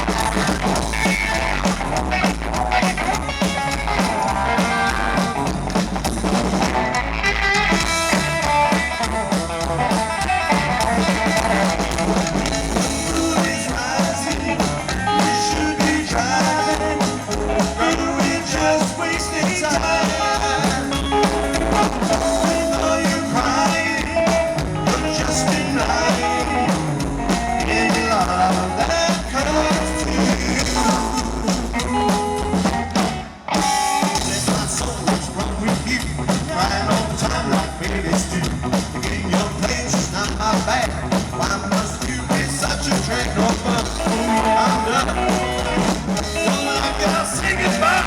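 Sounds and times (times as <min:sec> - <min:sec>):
upright bass: 0:00.0 - 0:33.4, 0:34.2 - 0:48.0
electric guitar lead: 0:00.0 - 0:37.6, 0:40.7 - 0:48.0
drums: 0:00.0 - 0:48.0.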